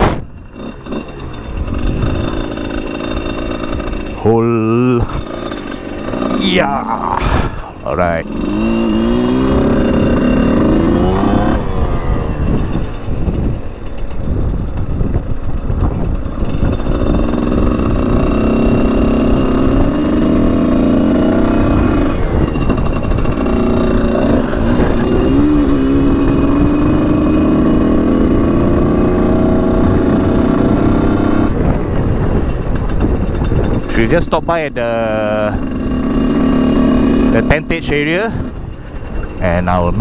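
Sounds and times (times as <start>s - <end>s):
two-stroke motorcycle engine revving: 0.0s - 40.0s
wind buffeting microphone: 0.0s - 40.0s.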